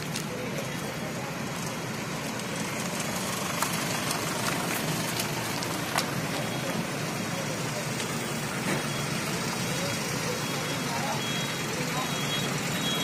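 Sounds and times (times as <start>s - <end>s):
vehicle engines idling: 0.0s - 13.0s.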